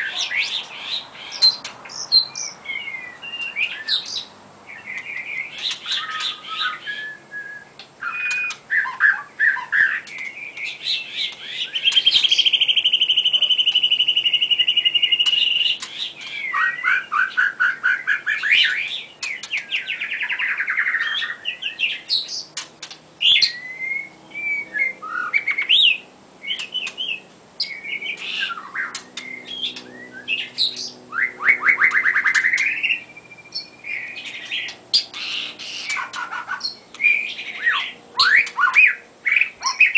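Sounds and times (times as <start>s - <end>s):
bird singing with trills: 0.0s - 39.9s.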